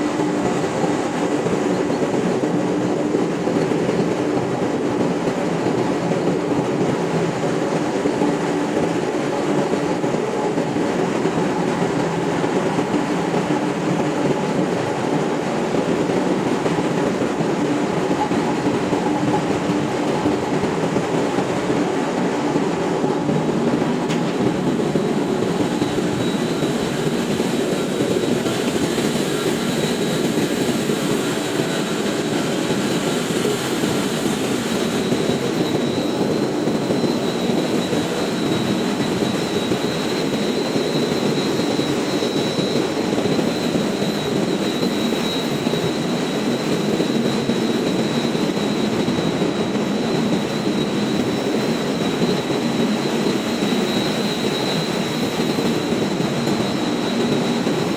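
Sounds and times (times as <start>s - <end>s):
engine room machinery roar: 0.0s - 57.9s.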